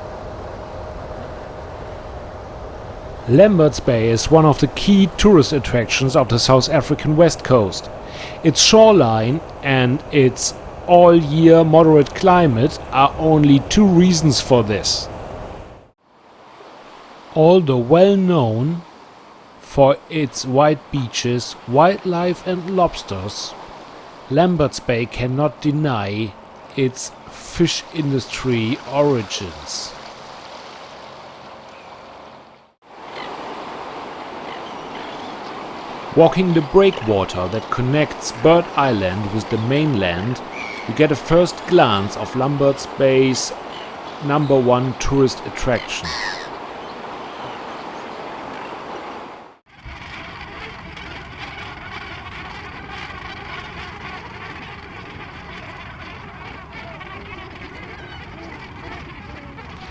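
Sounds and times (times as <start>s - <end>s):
seabird colony calling: 0.0s - 15.6s, 17.4s - 59.9s
ocean surf washing ashore: 0.0s - 59.9s
wind: 0.0s - 59.9s.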